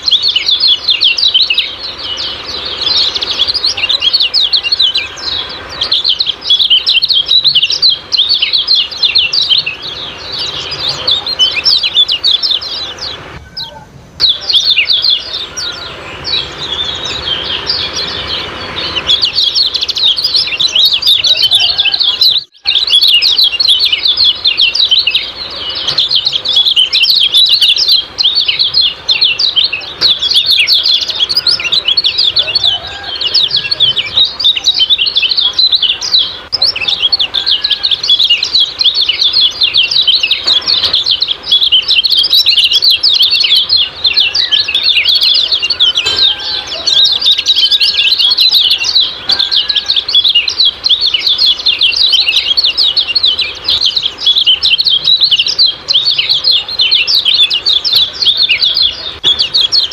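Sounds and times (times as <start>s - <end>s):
bird lower whistled notes: 0.0s - 59.9s
songbird rapid high chirping: 0.0s - 59.9s.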